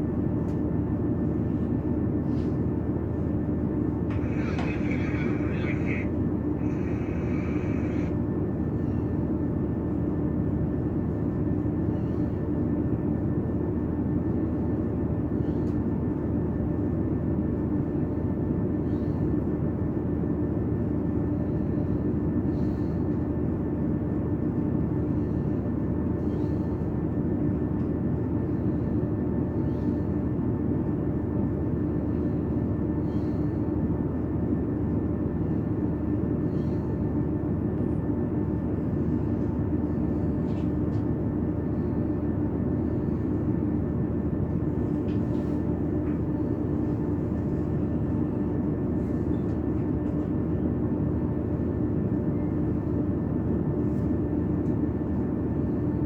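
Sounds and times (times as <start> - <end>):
steady hum: 0.0 - 56.0
train rumble inside carriage: 0.0 - 56.0.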